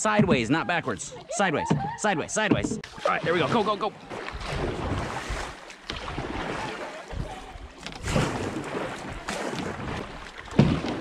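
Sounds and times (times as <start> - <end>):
paddles splashing in water: 0.0 - 11.0.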